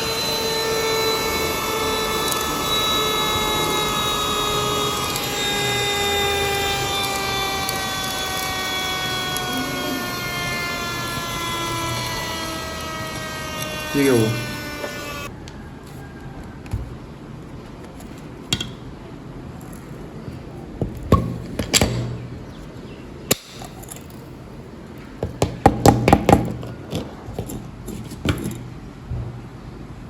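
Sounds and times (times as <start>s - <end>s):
faint steady background noise: 0.0s - 30.0s.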